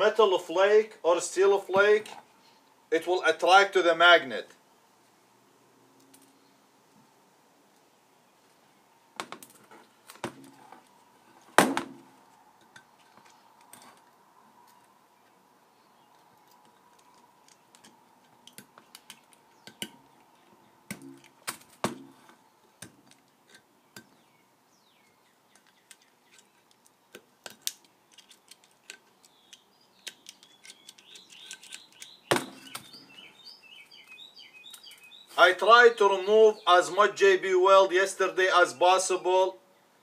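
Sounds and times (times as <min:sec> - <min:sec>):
birds chirping faintly: 0:00.0 - 0:40.0.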